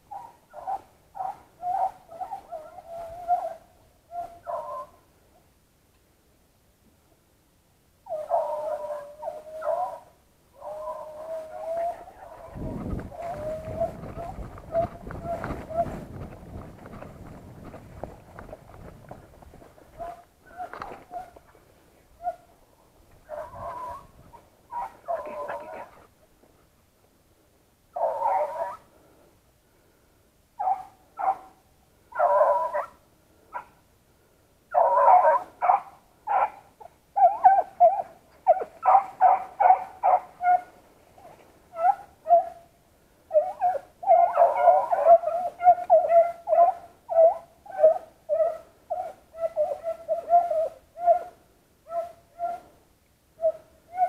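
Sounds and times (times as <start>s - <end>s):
beagles baying: 0.1s - 5.1s, 8.0s - 26.1s, 27.9s - 29.0s, 30.6s - 33.8s, 34.7s - 52.8s, 53.4s - 54.0s.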